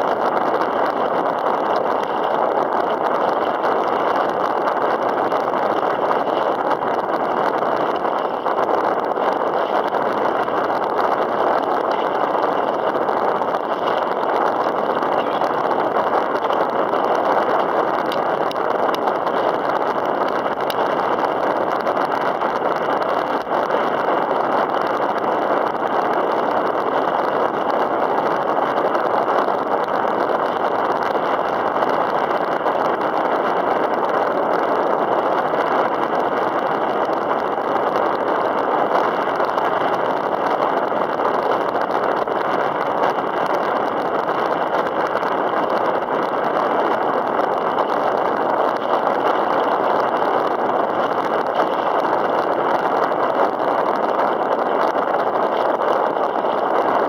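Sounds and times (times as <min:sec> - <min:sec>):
choppy water washing: 0:00.0 - 0:57.0
wind rushing: 0:00.0 - 0:57.0.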